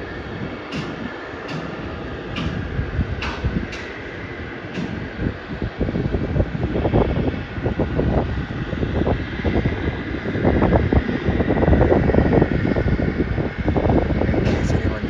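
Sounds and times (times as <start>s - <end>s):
distant aircraft engine: 0.0s - 15.0s
wind buffeting microphone: 0.0s - 15.0s.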